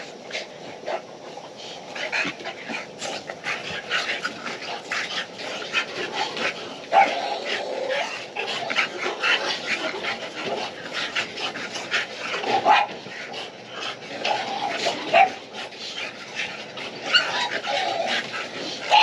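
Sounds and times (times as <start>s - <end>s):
dogs barking and whimpering: 0.0s - 19.0s.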